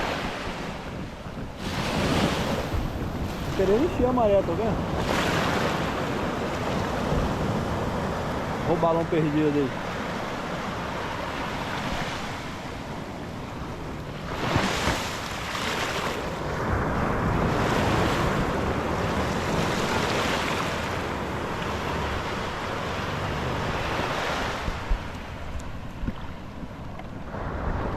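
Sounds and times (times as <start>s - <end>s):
waves washing on shore: 0.0s - 27.9s
wind buffeting microphone: 0.0s - 27.9s.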